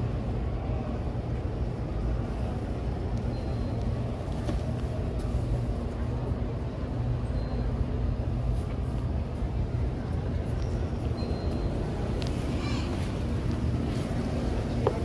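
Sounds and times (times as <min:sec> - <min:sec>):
faint indistinct voices: 0:00.0 - 0:15.0
low hum and rumble of hall: 0:00.0 - 0:15.0.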